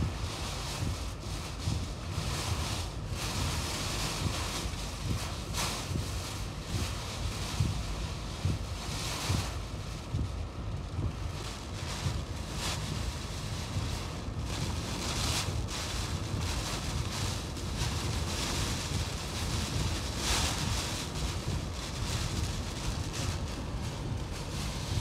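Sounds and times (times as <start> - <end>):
driving rain: 0.0 - 25.0
wind buffeting the microphone: 0.0 - 25.0.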